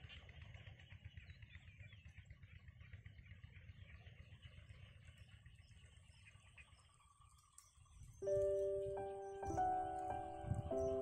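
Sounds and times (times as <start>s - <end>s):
distant small birds chirping: 0.0s - 11.0s
low fluttering rumble: 0.2s - 11.0s.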